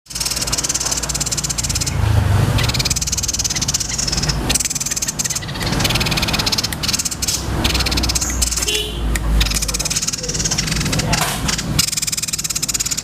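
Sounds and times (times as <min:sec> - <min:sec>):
songbird fast rolling trills: 0:00.1 - 0:08.8, 0:09.4 - 0:13.0.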